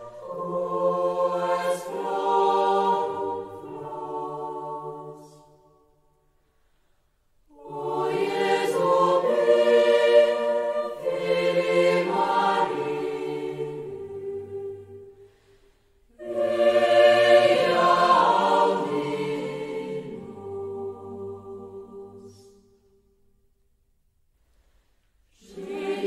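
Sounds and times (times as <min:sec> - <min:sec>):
choir singing: 0:00.0 - 0:06.1, 0:07.4 - 0:23.2, 0:25.3 - 0:26.0.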